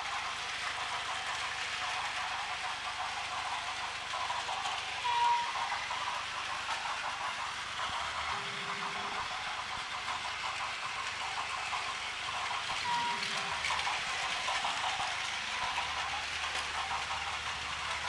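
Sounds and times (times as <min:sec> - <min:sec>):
toy trains whirring and rattling: 0:00.0 - 0:18.0.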